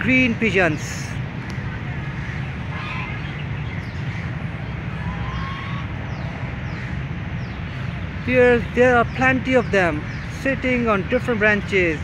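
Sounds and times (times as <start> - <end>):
bird calls: 0.4 - 12.0.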